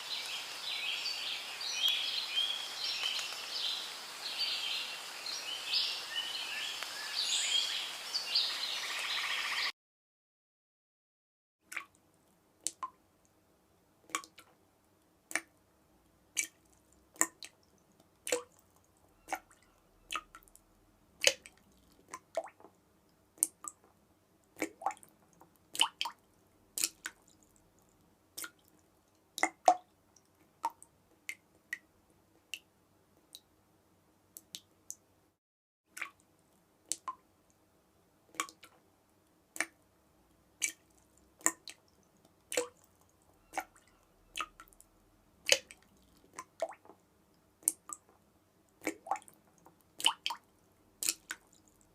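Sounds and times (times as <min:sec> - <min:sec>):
water dripping: 0:00.0 - 0:08.3, 0:11.7 - 0:13.4, 0:14.1 - 0:14.6, 0:15.3 - 0:15.6, 0:16.3 - 0:33.5, 0:34.3 - 0:35.0, 0:35.9 - 0:37.6, 0:38.3 - 0:51.9.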